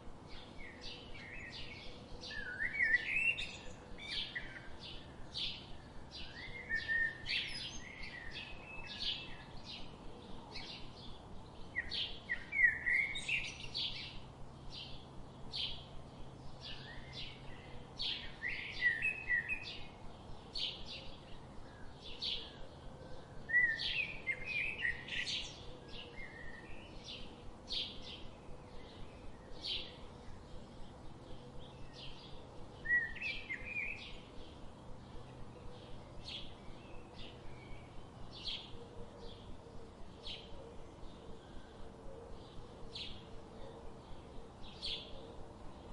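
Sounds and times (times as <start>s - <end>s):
faint background hiss: 0.0s - 45.9s.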